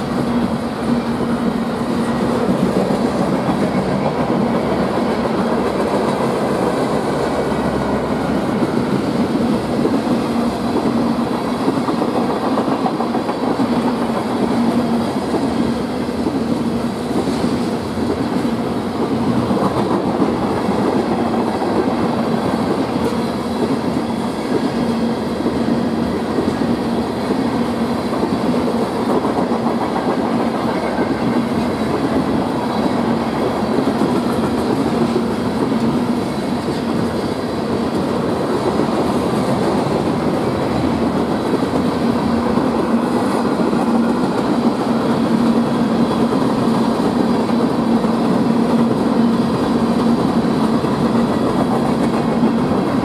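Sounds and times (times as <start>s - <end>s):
freight train rolling past: 0.0s - 53.0s
steel wheels rattling on rails: 0.0s - 53.0s.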